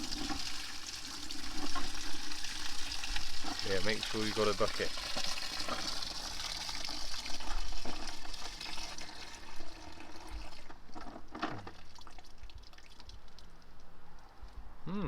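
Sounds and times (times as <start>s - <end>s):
liquid pouring into a bucket: 0.0s - 14.2s.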